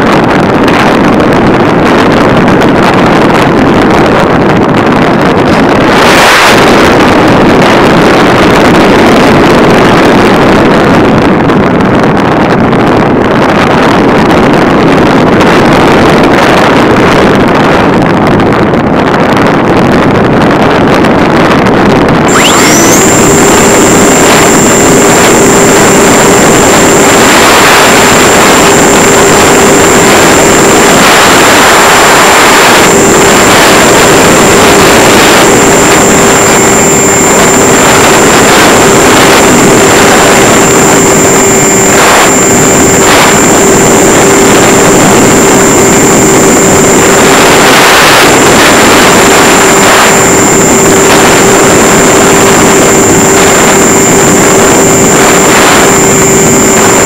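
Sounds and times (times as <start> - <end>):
electric motor and propeller drone: 0.0 - 57.0
wind rush over microphone: 0.0 - 57.0.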